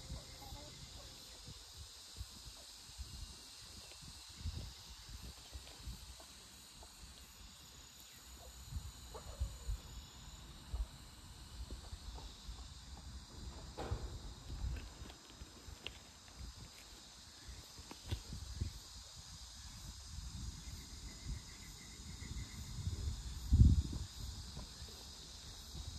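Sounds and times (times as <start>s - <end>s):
insects chirring: 0.0s - 25.9s.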